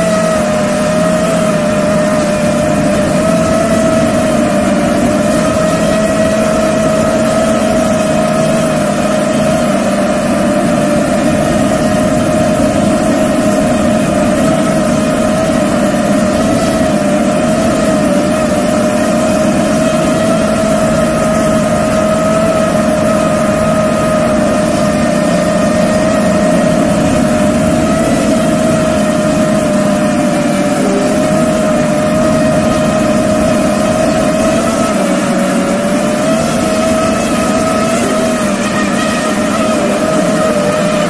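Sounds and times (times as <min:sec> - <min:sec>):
drone motors and propellers whining: 0:00.0 - 0:41.0.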